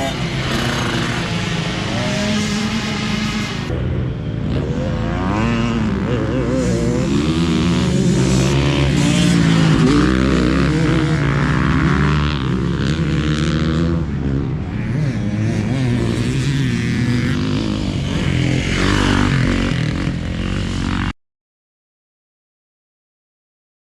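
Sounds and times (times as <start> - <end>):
motocross bikes revving: 0.0 - 21.1.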